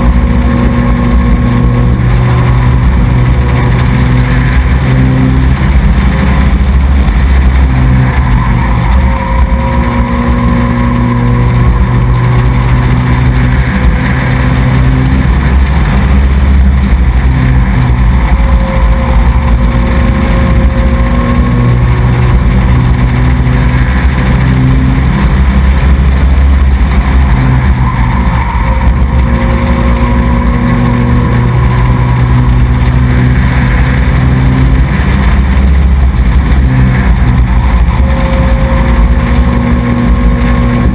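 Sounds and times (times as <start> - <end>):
race truck engine running hard: 0.0 - 40.9.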